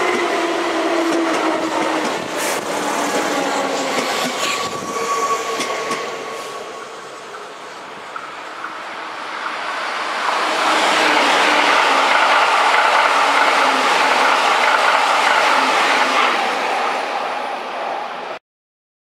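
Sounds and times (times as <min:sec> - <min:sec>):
electric train passing: 0:00.0 - 0:18.4.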